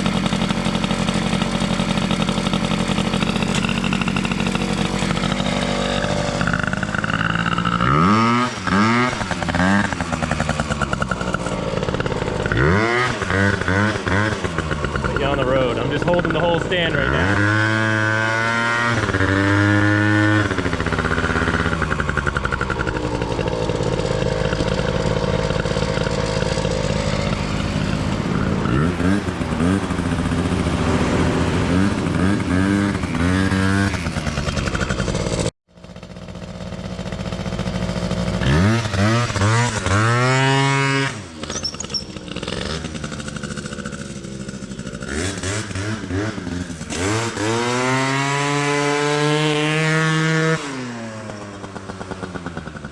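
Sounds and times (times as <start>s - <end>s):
scooter engine revving: 0.0s - 52.9s.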